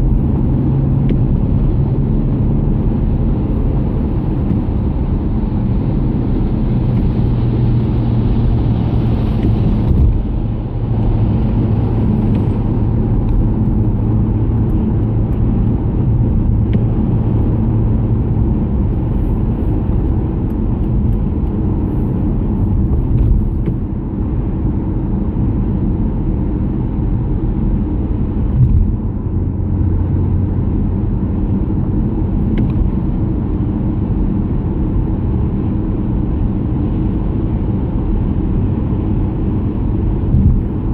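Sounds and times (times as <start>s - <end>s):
car road noise on wet road: 0.0s - 40.9s.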